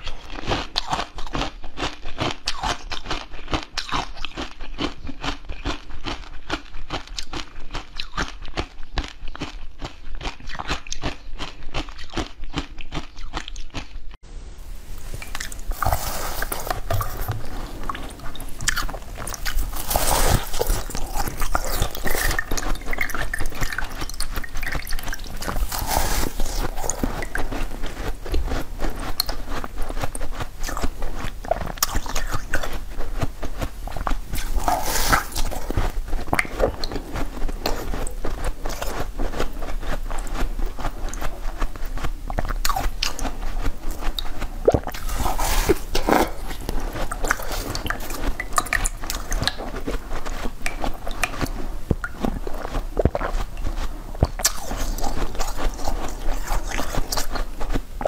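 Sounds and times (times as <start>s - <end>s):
crunchy crackling bites: 0.0s - 14.0s, 15.2s - 58.0s
rhythmic chewing: 0.0s - 14.2s, 15.0s - 58.0s.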